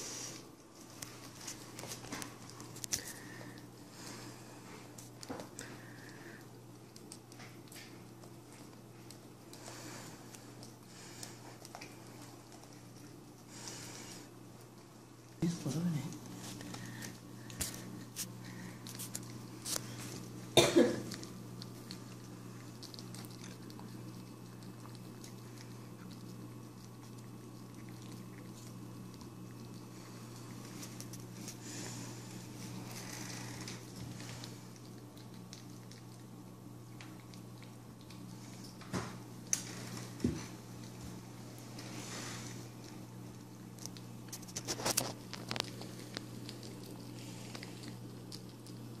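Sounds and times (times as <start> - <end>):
steady low hum: 0.0 - 49.0
dog chewing and licking: 0.1 - 49.0.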